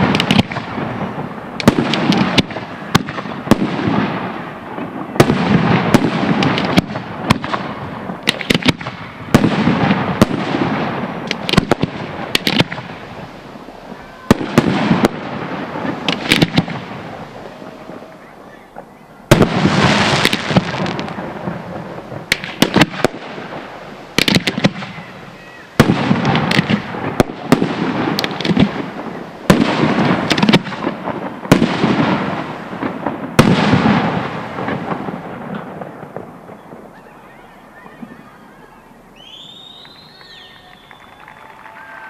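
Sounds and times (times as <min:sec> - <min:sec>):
firework bangs: 0:00.0 - 0:42.0
firework crackling: 0:00.0 - 0:42.0.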